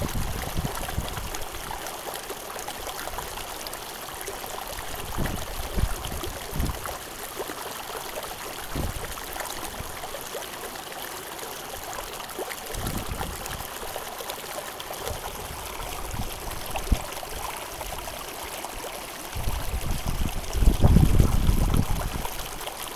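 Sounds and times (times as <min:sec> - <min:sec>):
mountain stream rushing: 0:00.0 - 0:22.9.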